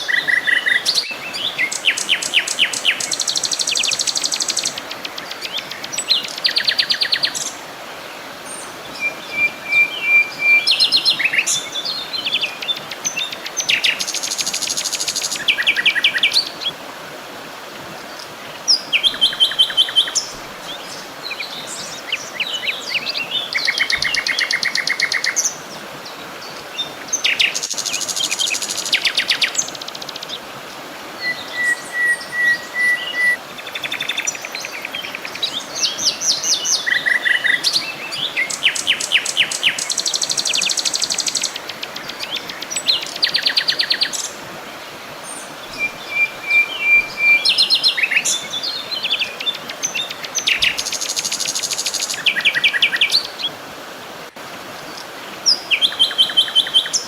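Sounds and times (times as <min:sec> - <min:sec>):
songbirds singing: 0:00.0 - 0:16.8, 0:17.8 - 0:53.7, 0:54.4 - 0:57.0
steady background hiss: 0:00.0 - 0:57.0.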